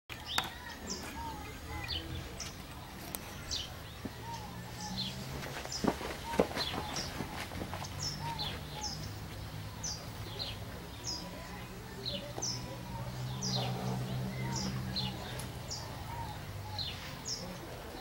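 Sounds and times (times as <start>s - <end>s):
small birds chirping: 0.1s - 18.0s.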